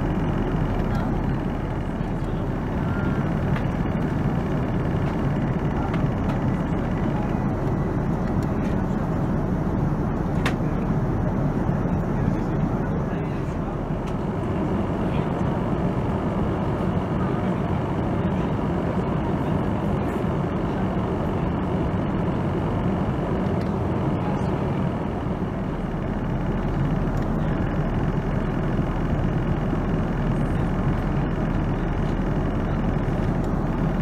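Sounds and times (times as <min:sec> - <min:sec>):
airplane cabin noise: 0:00.0 - 0:34.0.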